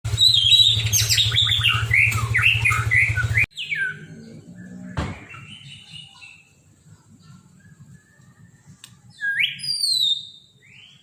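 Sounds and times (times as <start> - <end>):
bird singing whistled notes: 0.2 - 6.5, 7.5 - 11.0.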